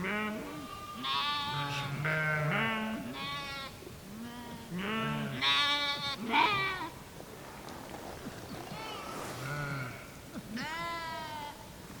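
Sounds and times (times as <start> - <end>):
sheep bleating: 0.0 - 6.9, 8.8 - 11.6.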